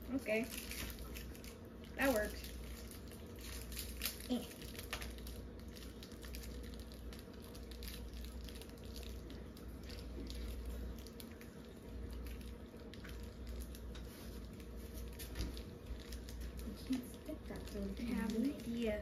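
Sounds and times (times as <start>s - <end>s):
low steady hum: 0.0s - 19.0s
candy wrapper crinkles and clicks: 0.4s - 19.0s.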